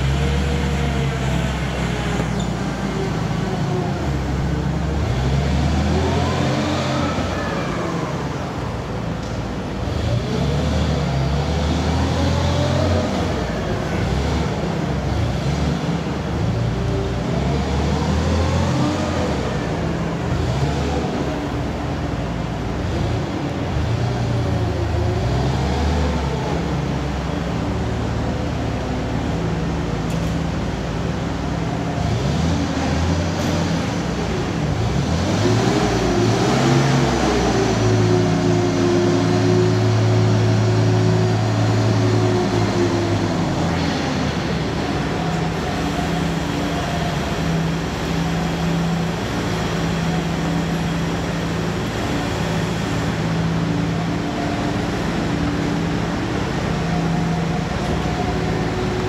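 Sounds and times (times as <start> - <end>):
forklift engine running: 0.0 - 59.0.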